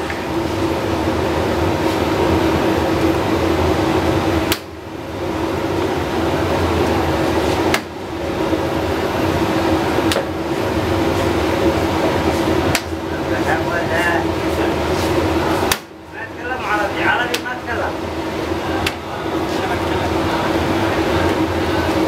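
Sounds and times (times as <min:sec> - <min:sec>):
steady mechanical drone: 0:00.0 - 0:22.0.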